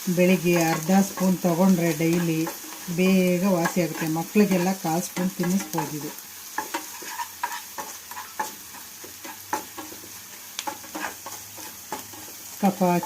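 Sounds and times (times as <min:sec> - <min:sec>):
light sizzle: 0:00.0 - 0:13.0
spoon scraping a pan: 0:00.3 - 0:13.0.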